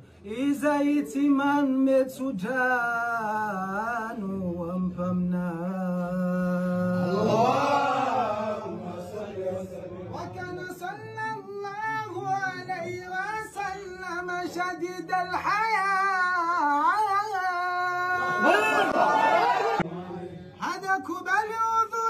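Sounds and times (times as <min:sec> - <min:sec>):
man chanting: 0:00.2 - 0:18.6, 0:20.0 - 0:22.0.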